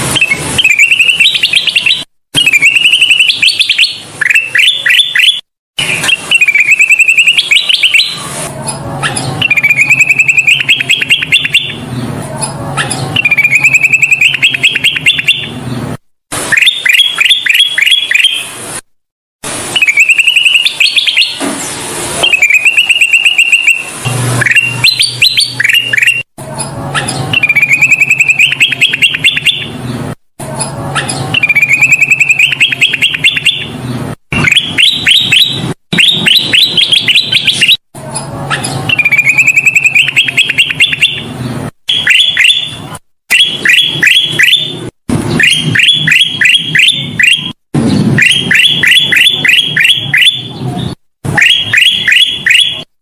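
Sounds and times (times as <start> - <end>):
bird chirping: 0.1 - 15.9, 16.5 - 18.6, 19.8 - 52.9.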